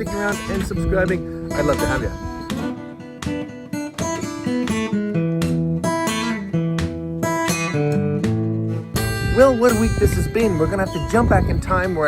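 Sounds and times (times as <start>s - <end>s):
acoustic guitar strummed and picked: 0.0s - 12.0s.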